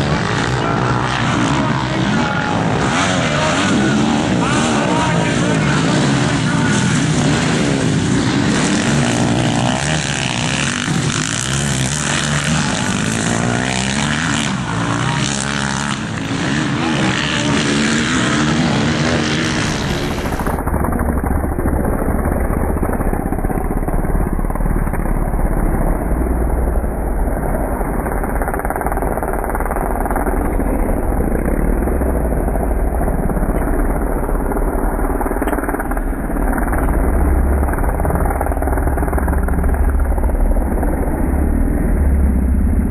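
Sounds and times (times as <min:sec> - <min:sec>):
motorcycle engines revving: 0:00.0 - 0:42.9
steady low rumble: 0:00.0 - 0:42.9.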